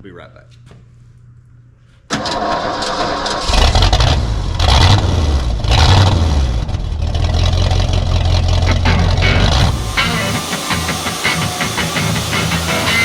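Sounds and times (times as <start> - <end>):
engine running in surges: 2.3 - 13.0.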